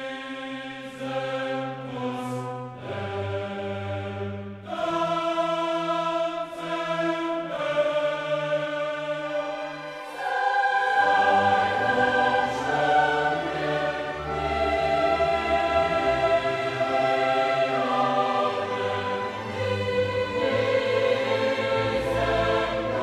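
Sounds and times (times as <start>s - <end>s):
choir singing held chords: 0.0s - 23.0s.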